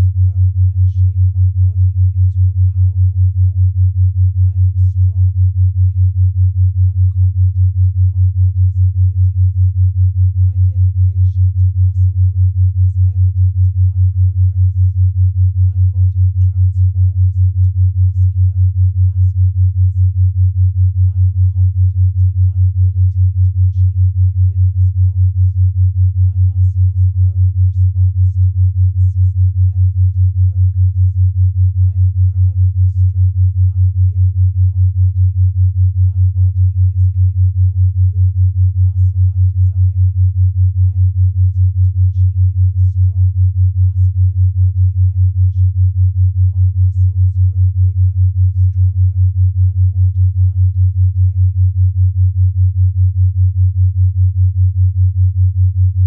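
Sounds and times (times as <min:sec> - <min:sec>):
pulsing low pure tone: 0:00.0 - 0:56.0.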